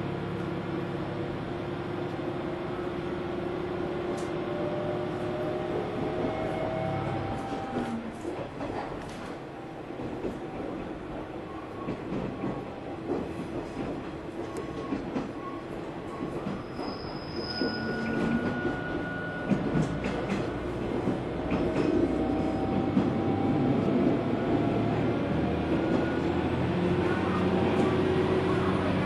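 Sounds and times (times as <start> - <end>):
railcar engine and rail noise: 0.0 - 29.0.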